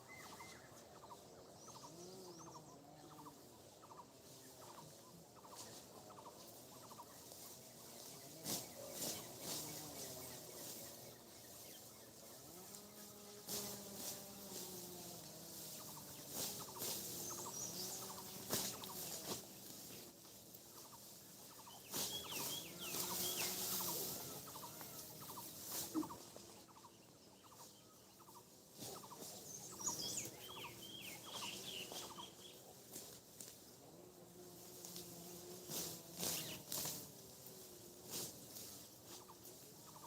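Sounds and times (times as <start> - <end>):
small birds chirping: 0.0 - 40.0
rustling hiss: 2.4 - 26.8, 27.5 - 40.0.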